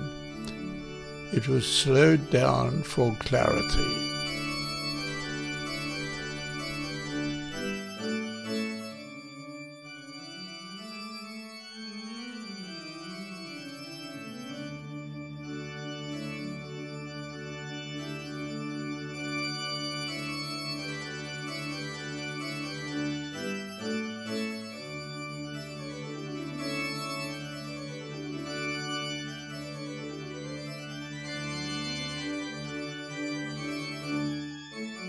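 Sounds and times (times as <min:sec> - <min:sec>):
slow organ-like chords: 0:00.0 - 0:35.0.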